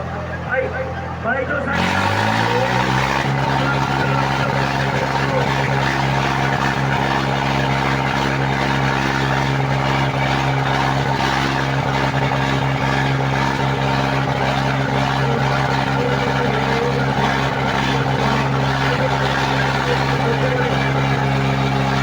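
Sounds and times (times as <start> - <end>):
tractor engines under heavy load: 0.0 - 22.0.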